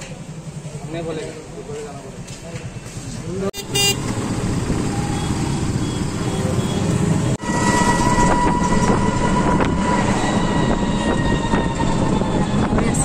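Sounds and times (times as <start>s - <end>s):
rickshaw road rumble: 0.0s - 13.0s.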